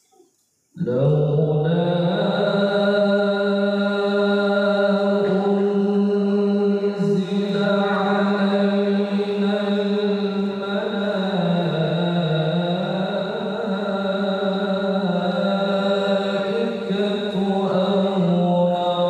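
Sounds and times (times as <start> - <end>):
man chanting melodic recitation: 0.8 - 19.0.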